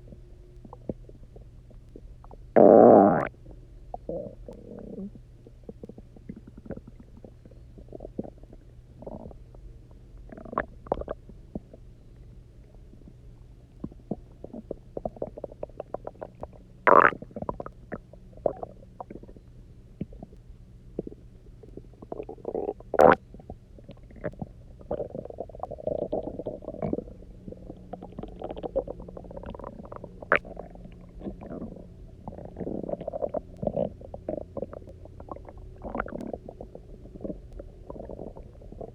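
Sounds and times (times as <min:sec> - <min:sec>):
stomach rumbling and gurgling: 0:00.0 - 0:38.9.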